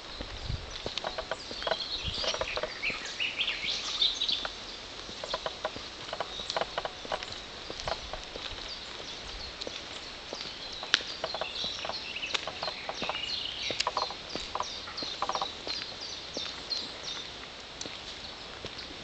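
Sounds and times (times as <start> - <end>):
birds chirping: 0.0 - 19.0
footsteps on paved path: 0.0 - 19.0
buzzy bird calls: 0.8 - 17.3.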